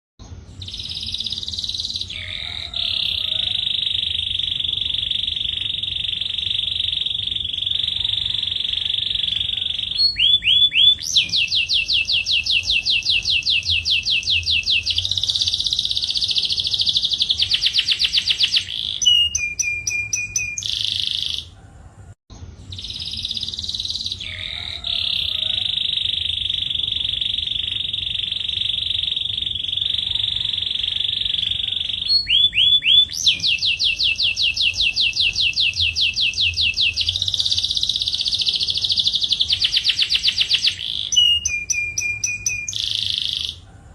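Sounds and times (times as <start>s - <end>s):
canary singing trills: 0.2s - 21.6s, 22.5s - 43.7s.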